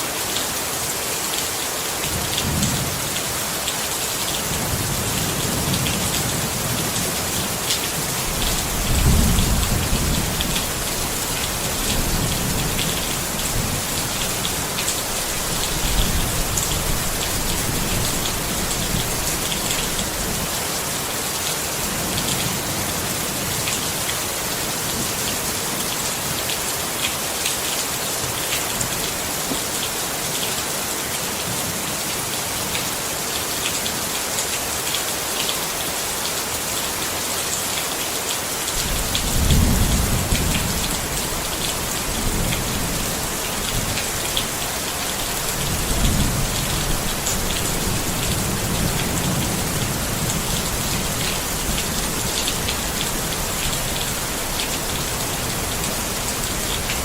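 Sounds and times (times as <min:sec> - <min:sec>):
rain falling on a tent: 0:00.0 - 0:57.0.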